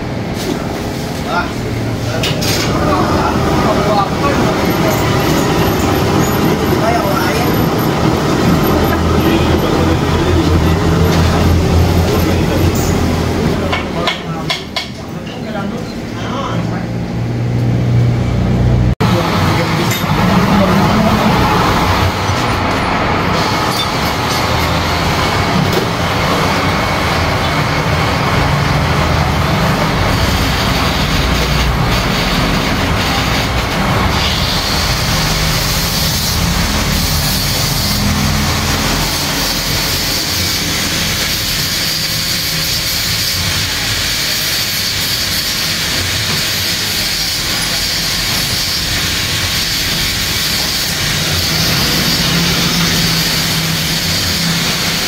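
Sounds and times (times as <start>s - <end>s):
metal lathe running: 1.7s - 14.9s, 19.0s - 55.0s.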